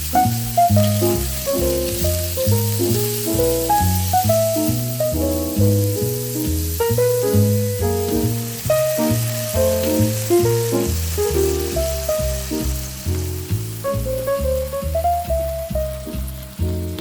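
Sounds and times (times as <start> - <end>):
food sizzling in a frying pan: 0.0 - 17.0
instrumental background music: 0.0 - 17.0.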